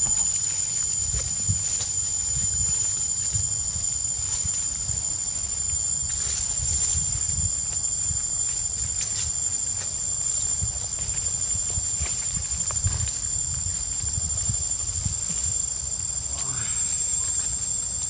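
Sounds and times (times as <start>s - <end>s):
high-pitched insect whine: 0.0s - 18.0s.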